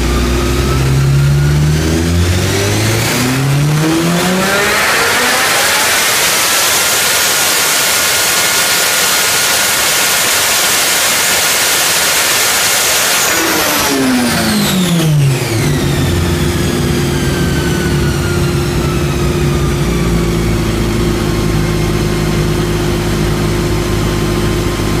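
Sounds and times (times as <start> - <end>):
motorcycle engine revving and idling: 0.0 - 10.8, 12.4 - 25.0
high whine of dyno roller: 0.0 - 25.0.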